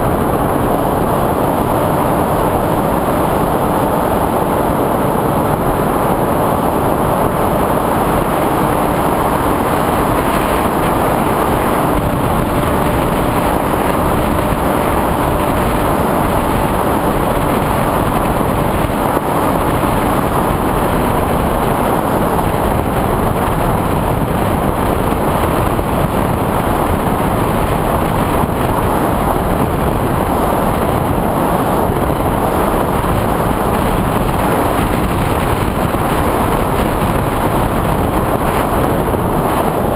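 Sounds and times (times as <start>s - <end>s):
wind and propeller rushing: 0.0s - 39.9s.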